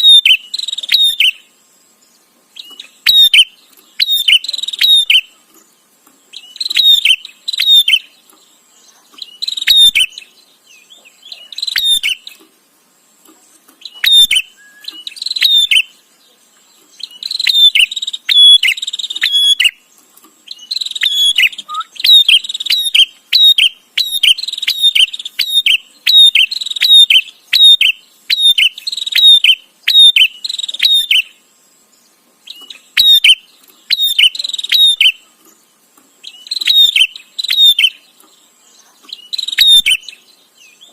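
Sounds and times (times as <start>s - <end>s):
bird chirping sharply: 0.0s - 1.6s, 2.6s - 5.4s, 6.2s - 12.4s, 13.8s - 16.2s, 16.8s - 19.9s, 20.5s - 31.4s, 32.4s - 35.2s, 36.2s - 40.9s.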